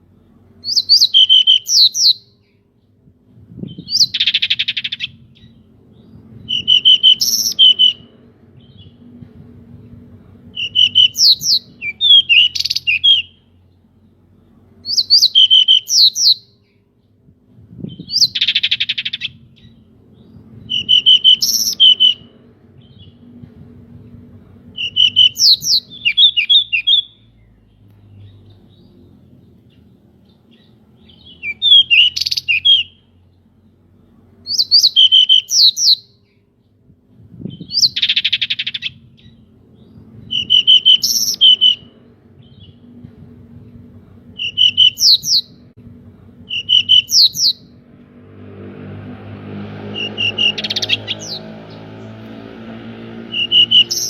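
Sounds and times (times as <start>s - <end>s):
bird singing sweet phrases: 0.0s - 45.7s, 46.5s - 47.8s, 49.8s - 54.0s.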